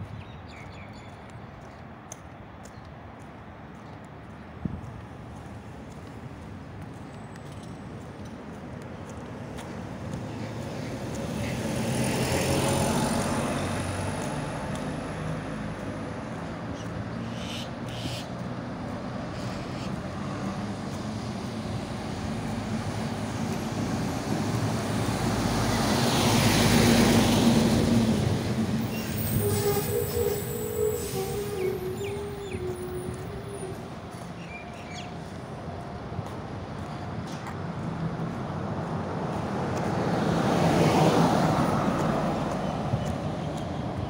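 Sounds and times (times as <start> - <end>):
vehicles passing on road: 0.0 - 44.0.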